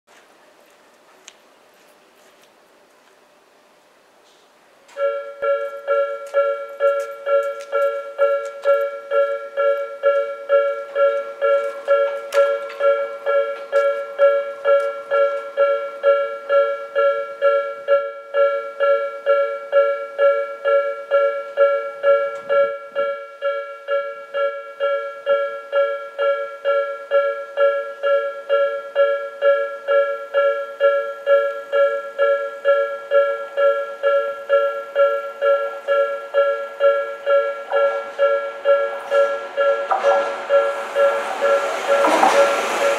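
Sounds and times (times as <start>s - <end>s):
railroad crossing warning bell: 4.9s - 42.9s.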